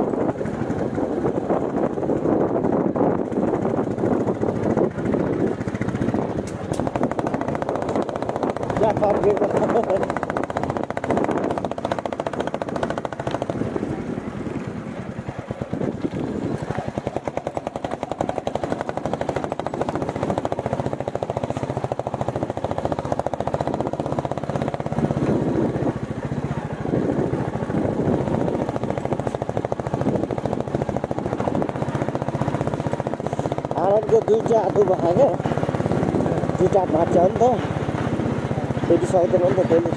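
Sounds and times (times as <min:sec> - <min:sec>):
motorcycle engine thumping: 0:00.1 - 0:39.9.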